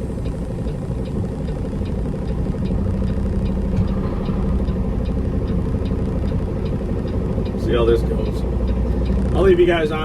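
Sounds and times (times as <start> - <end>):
diesel truck engine running: 0.0 - 10.0
faint regular ticking: 0.0 - 10.0.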